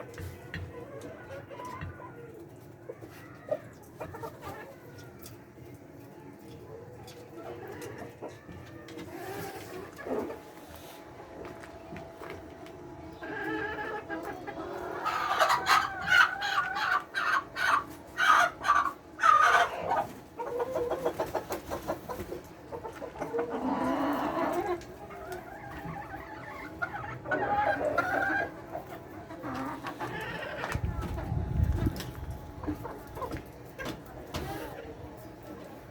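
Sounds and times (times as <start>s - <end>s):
hens clucking: 0.0s - 35.9s.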